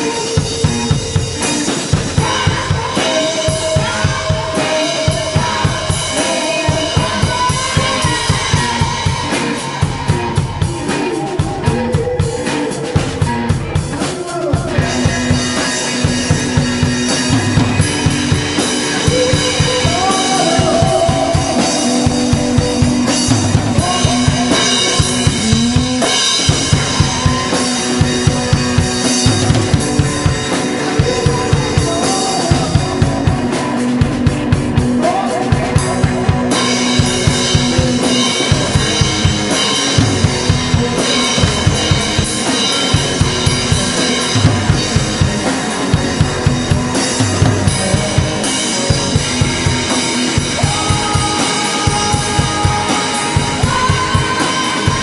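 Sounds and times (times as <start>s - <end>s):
bass drum and snare beat: 0.0s - 55.0s
guitar: 0.0s - 55.0s
live band playing: 0.0s - 55.0s.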